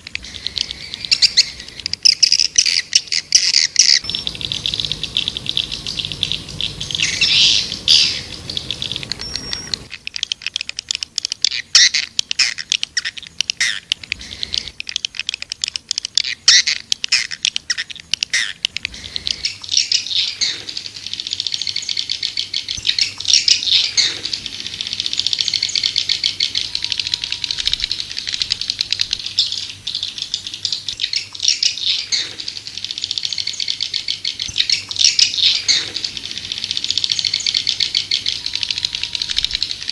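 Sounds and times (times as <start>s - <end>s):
low background hiss: 0.0s - 39.9s
swiftlets twittering: 0.0s - 39.9s.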